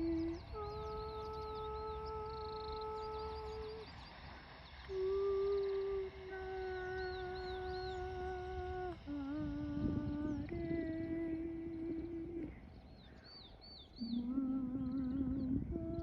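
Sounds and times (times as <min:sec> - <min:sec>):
bird chirps: 0:00.0 - 0:09.1, 0:09.7 - 0:16.0
humming tones: 0:00.0 - 0:16.0.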